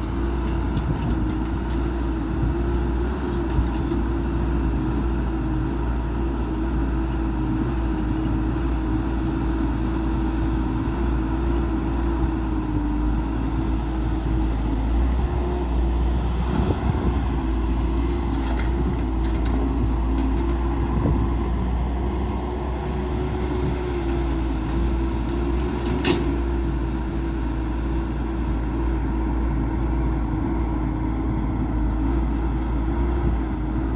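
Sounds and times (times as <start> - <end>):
diesel machinery engine rumbling: 0.0 - 33.9
steady engine whine: 0.0 - 33.9.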